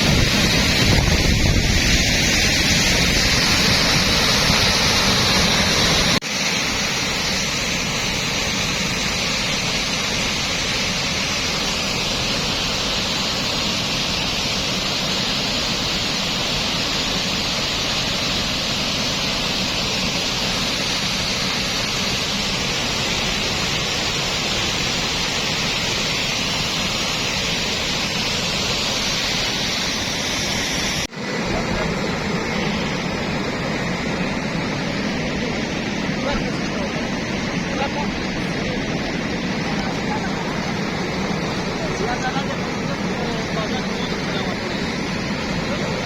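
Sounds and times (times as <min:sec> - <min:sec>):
floodwater rushing: 0:00.0 - 0:46.0.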